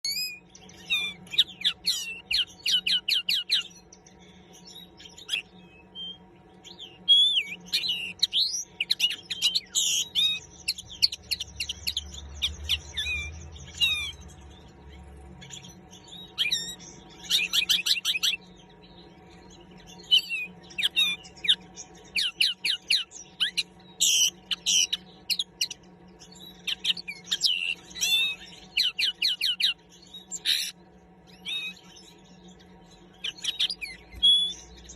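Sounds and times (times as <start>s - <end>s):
bird twittering trills and chirps: 0.0s - 34.9s.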